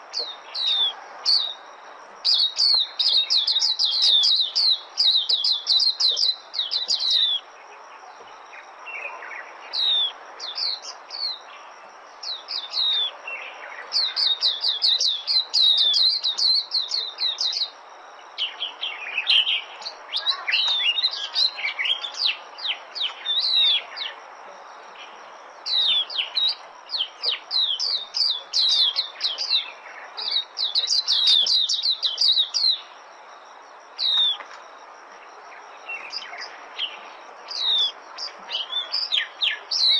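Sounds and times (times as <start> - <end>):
bird twittering song: 0.0 - 24.2, 24.9 - 33.0, 33.9 - 39.9
background hiss: 0.0 - 39.9.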